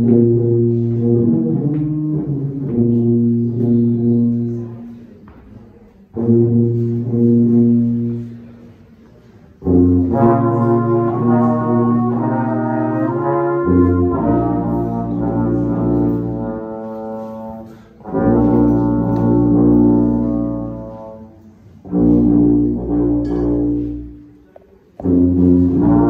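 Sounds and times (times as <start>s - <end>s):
brass trio playing held chords: 0.0s - 5.0s, 6.1s - 8.7s, 9.6s - 24.4s, 25.0s - 26.0s.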